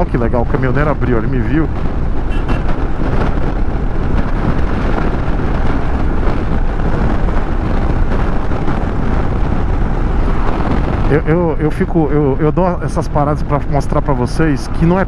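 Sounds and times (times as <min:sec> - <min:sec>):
wind rush over microphone: 0:00.0 - 0:15.0.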